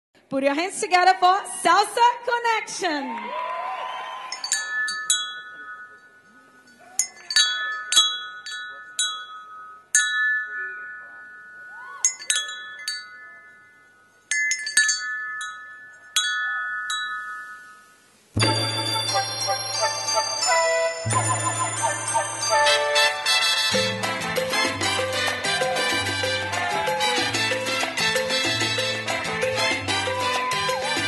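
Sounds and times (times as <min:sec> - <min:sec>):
chimes ringing: 0:04.2 - 0:31.0.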